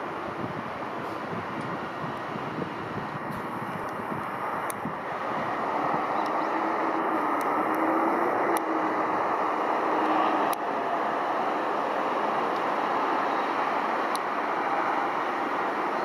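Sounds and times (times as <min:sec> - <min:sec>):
distant city traffic hum: 0:00.0 - 0:16.0.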